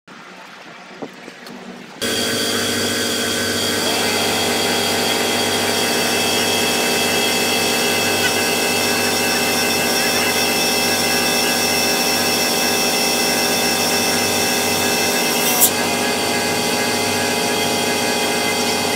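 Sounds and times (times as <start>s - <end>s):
air pump motor whining: 2.0s - 18.9s.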